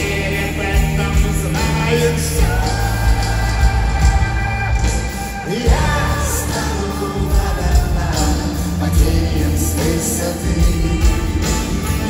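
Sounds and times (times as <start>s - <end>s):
live pop-rock band: 0.0s - 12.0s
man singing: 0.0s - 12.0s.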